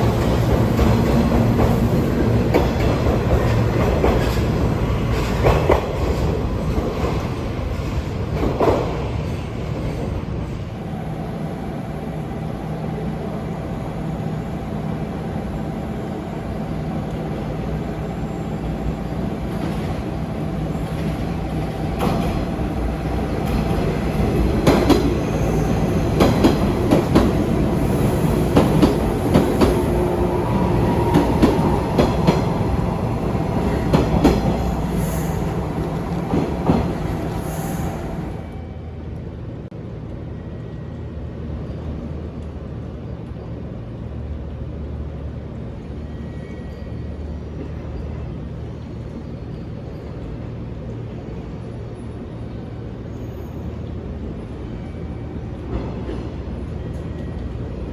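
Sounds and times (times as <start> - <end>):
rail-joint clickety-clack: 0.0 - 10.8, 16.6 - 38.6, 44.4 - 57.9
electric train mechanical hum: 0.0 - 57.9.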